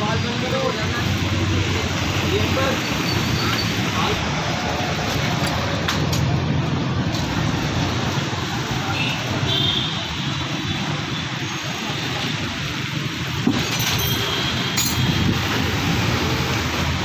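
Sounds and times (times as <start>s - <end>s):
low rumble of street noise: 0.0s - 17.0s.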